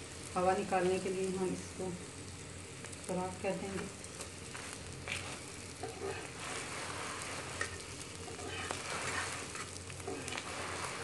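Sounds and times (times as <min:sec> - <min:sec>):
flatbread sizzling in oil: 0:00.0 - 0:11.0.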